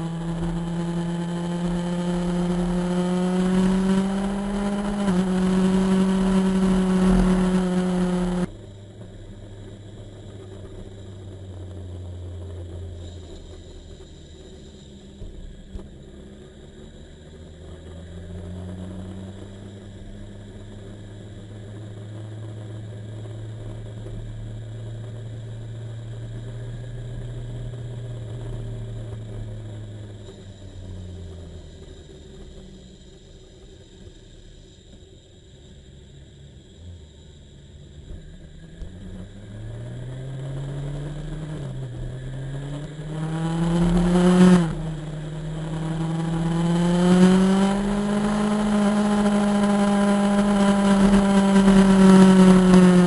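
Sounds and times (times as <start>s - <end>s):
motorcycle engine running: 0.0s - 34.2s, 36.6s - 53.0s.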